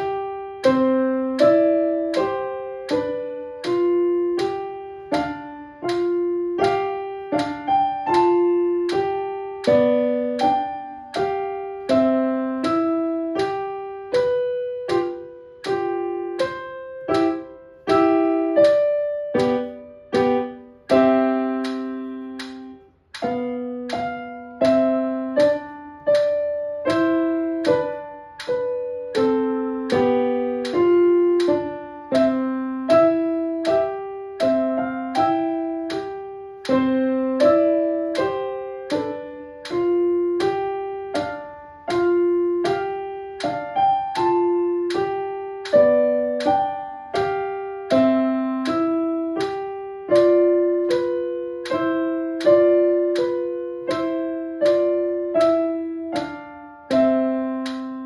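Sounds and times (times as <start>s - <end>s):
slow waltz on digital piano: 0.0s - 58.0s.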